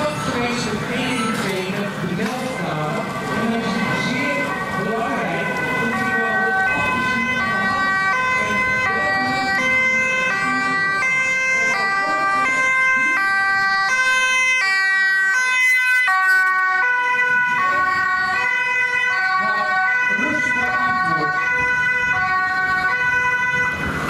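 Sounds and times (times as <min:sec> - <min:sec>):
two-tone emergency siren: 0:02.2 - 0:24.0.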